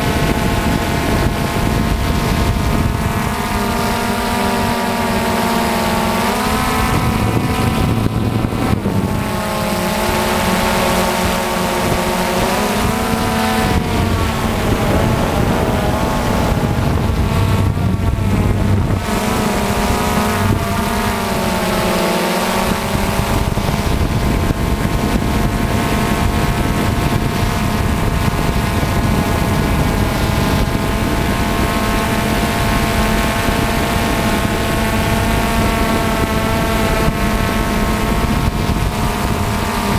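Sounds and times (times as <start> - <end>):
drone propellers whining: 0.0 - 39.9
wind on microphone: 0.0 - 39.9.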